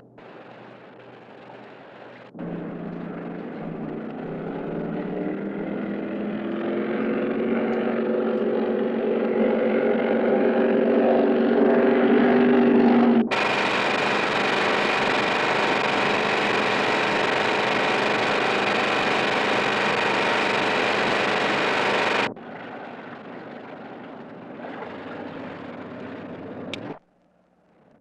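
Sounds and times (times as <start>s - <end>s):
speedboat engines running: 0.0s - 27.0s.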